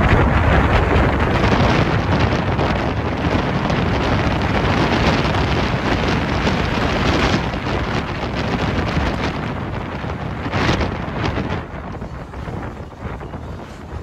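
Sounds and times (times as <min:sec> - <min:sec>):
moving passenger train: 0:00.0 - 0:14.0
wind buffeting microphone: 0:00.0 - 0:14.0.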